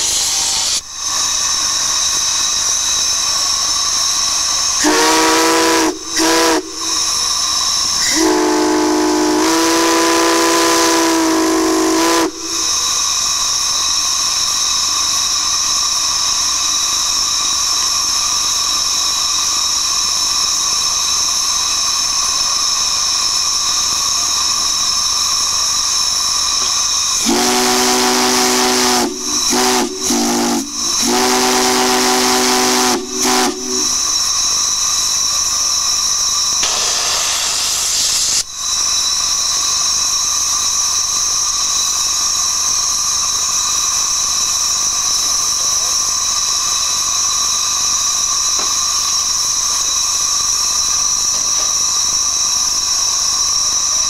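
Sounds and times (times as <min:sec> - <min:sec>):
high-pitched steam whistle: 0:00.0 - 0:54.0
steam hissing: 0:00.0 - 0:54.0.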